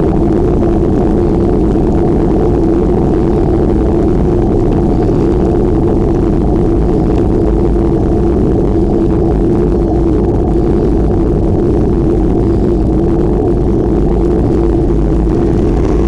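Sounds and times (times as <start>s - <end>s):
constant low hum: 0.0s - 16.0s
wind and road noise: 0.0s - 16.0s.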